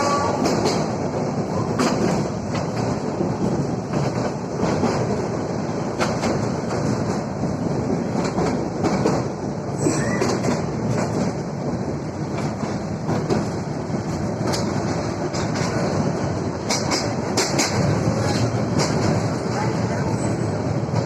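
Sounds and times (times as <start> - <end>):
train rumbling along track: 0.0 - 21.0
wheels clacking over rail joints: 0.0 - 21.0.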